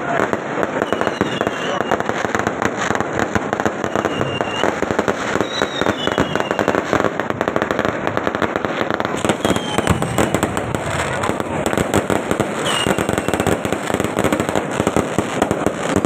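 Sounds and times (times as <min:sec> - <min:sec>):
firecracker bangs and crackles: 0:00.0 - 0:16.0
fireworks whistling: 0:00.0 - 0:16.0.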